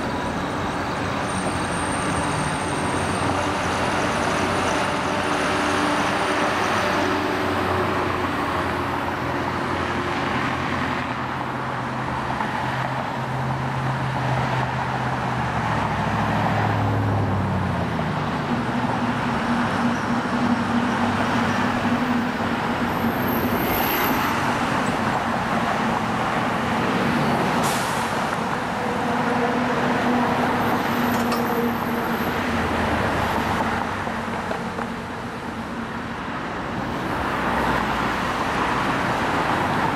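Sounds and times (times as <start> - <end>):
heavy vehicle engine hum: 0.0 - 39.9
road traffic: 0.0 - 39.9.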